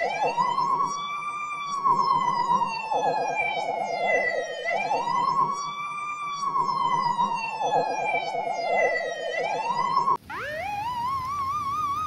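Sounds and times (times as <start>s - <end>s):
fast warbling siren tone: 0.0s - 12.0s
police siren wailing: 0.0s - 12.0s.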